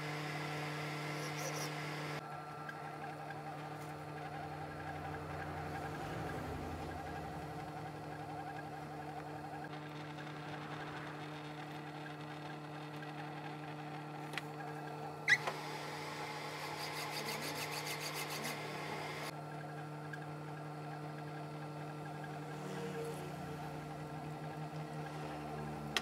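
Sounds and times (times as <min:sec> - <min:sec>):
metal lathe humming: 0:00.0 - 0:26.0.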